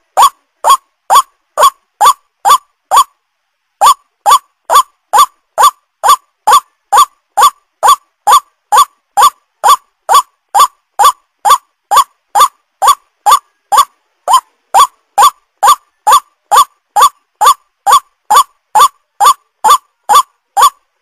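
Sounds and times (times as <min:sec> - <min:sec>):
waterhen call: 0:00.0 - 0:03.1, 0:03.8 - 0:20.8.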